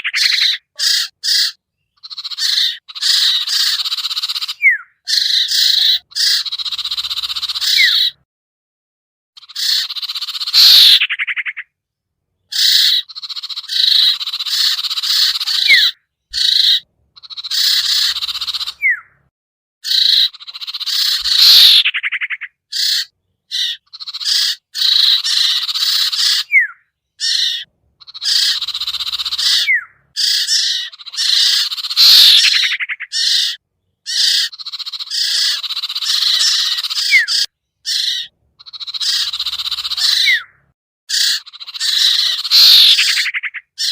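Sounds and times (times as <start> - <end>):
chattering bird calls: 0.0 - 8.2, 9.4 - 11.7, 12.4 - 43.9.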